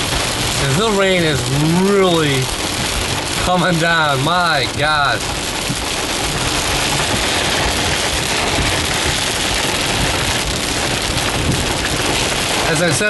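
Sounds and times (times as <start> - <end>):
heavy rain on car roof: 0.0 - 13.0.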